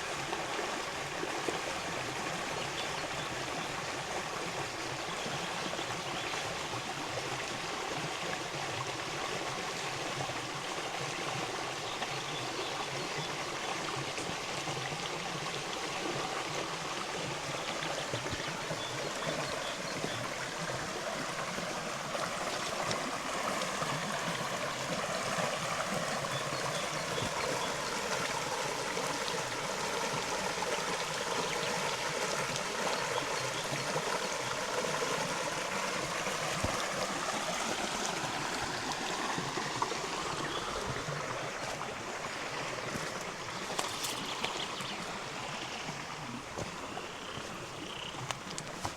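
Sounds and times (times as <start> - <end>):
river water flowing: 0.0 - 48.9.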